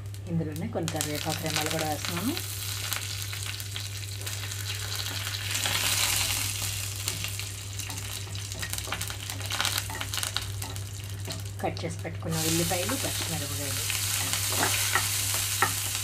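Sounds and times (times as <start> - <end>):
spices sizzling in hot oil: 0.0 - 16.0
steady low hum: 0.0 - 16.0.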